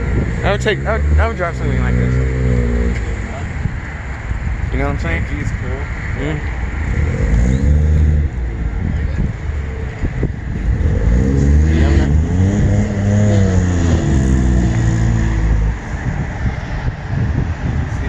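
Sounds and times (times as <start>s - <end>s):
car engine revving: 0.0s - 3.8s, 4.6s - 17.0s.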